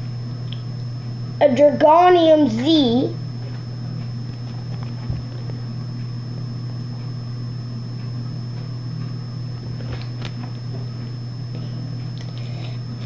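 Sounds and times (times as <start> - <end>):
low hum: 0.0 - 13.0
thin high whine: 0.0 - 13.0.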